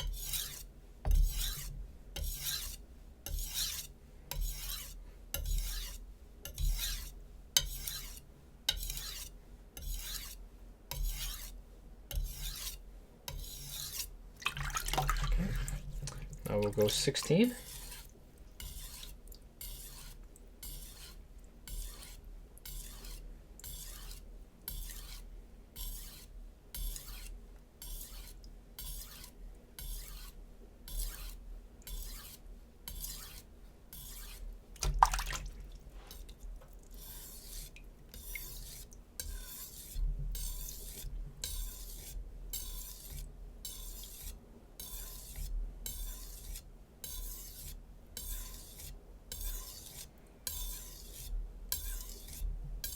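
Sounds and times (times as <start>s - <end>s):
knife scraping on whetstone: 0.0s - 14.1s, 15.1s - 35.4s, 36.9s - 52.9s.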